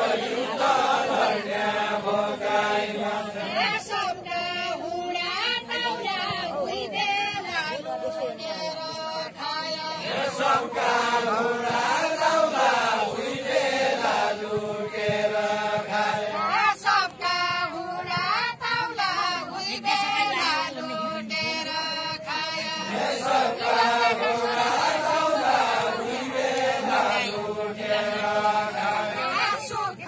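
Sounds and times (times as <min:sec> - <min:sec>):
group singing folk song: 0:00.0 - 0:30.0.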